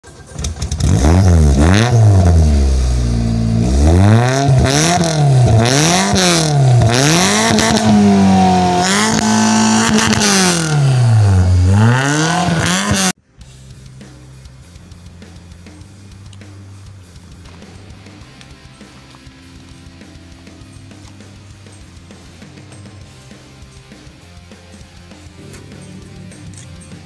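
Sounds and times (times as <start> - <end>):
car engine revving: 0.1 - 27.0.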